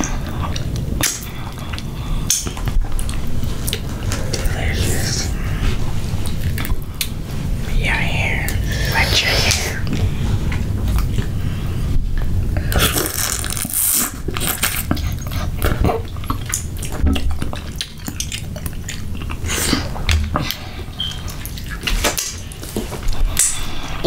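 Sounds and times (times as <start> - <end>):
wet eating sounds: 0.0 - 24.0.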